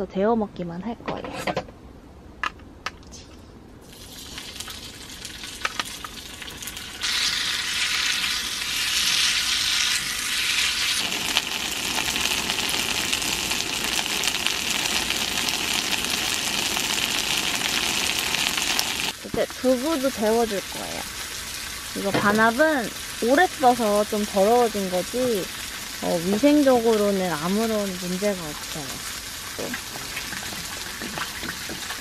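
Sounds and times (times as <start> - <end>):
food sizzling in frying pan: 3.8 - 32.0.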